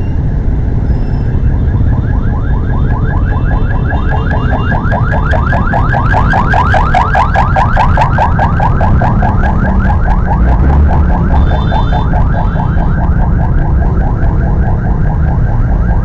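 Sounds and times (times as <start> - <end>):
electronic siren whooping: 0.0 - 16.0
traffic rumble: 0.0 - 16.0
wind: 0.0 - 16.0.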